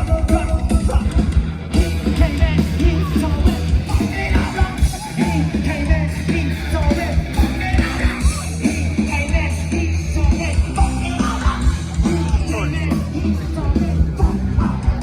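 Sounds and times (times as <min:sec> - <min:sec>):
pounding drums: 0:00.0 - 0:15.0
rock band playing heavy music: 0:00.0 - 0:15.0
singer shouting: 0:00.0 - 0:15.0.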